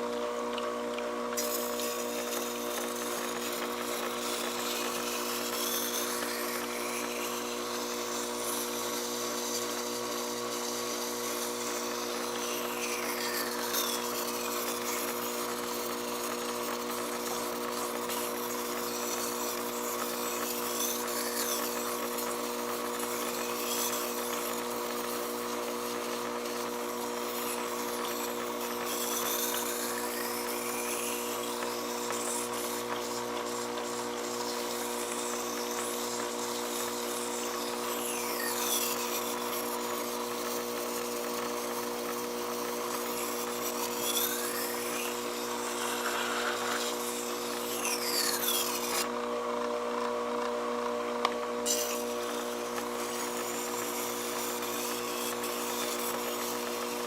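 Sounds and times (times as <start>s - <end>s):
knife grinder motor hum: 0.0s - 57.0s
grinder scraping sweeps: 1.4s - 49.2s.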